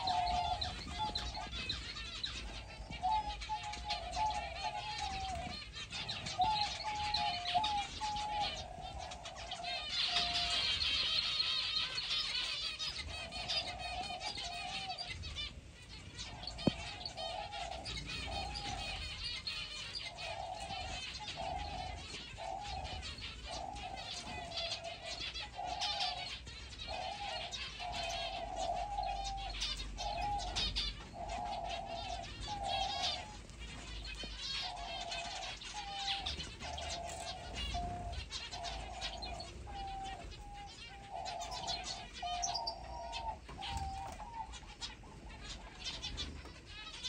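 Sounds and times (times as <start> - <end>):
doves cooing: 0.0 - 47.0
finches chirping: 0.0 - 47.0.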